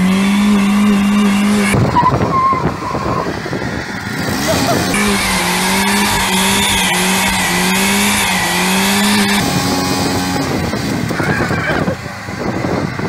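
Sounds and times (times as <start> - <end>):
car engine revving: 0.0 - 13.0
tyres squealing: 0.8 - 12.2.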